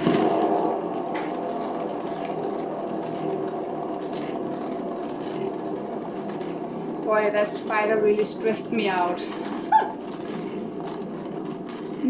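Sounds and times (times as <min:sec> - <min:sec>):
motorized spinner whirring: 0:00.0 - 0:12.0.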